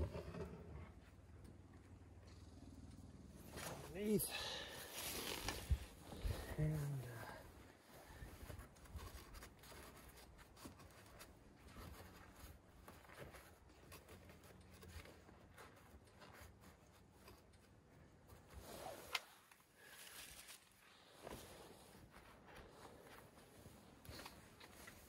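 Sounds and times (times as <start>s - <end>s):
hands and fabric rustling: 3.4s - 25.0s.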